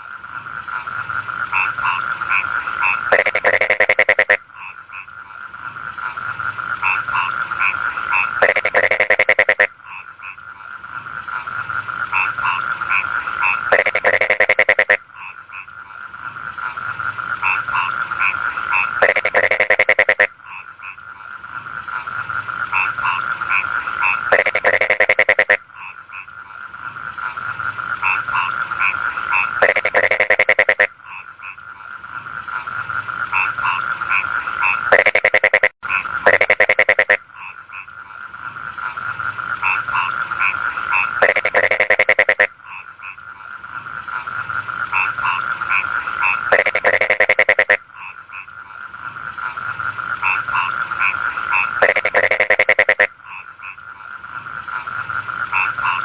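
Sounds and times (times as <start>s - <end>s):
frogs croaking in chorus: 0.0s - 56.0s
burst of rapid croaks: 0.7s - 10.4s, 11.7s - 21.0s, 22.3s - 56.0s.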